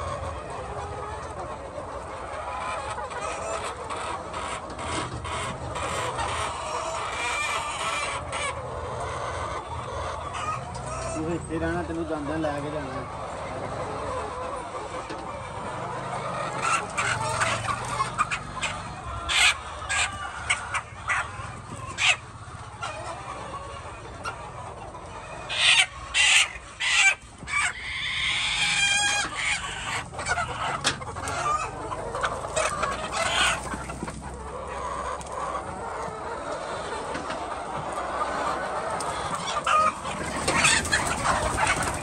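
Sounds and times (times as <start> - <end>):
chickens clucking and squawking: 0.0 - 42.0.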